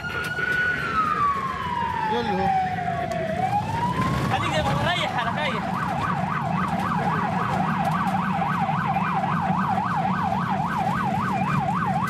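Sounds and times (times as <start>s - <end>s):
ambulance siren yelping: 0.0s - 12.0s.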